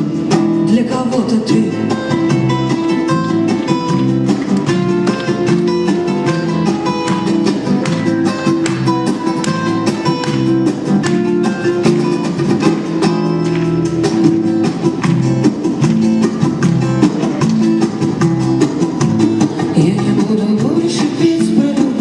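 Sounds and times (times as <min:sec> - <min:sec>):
flamenco acoustic guitar: 0:00.0 - 0:22.0.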